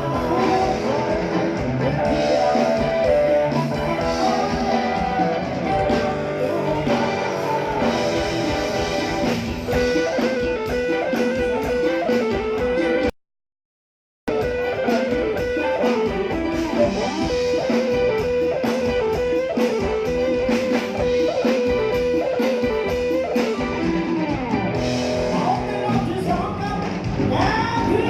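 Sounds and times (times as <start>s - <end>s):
electric guitar lead: 0.0s - 13.1s, 14.3s - 28.0s
live band playing: 0.0s - 13.1s, 14.3s - 28.0s.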